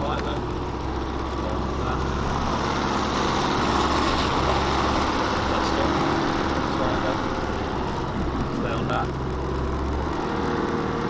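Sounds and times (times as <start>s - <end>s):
car engine running inside cabin: 0.0s - 11.0s.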